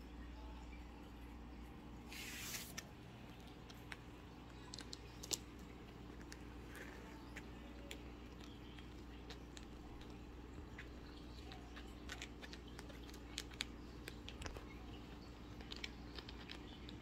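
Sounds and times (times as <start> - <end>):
kitten claws clicking and scratching: 3.2 - 17.0.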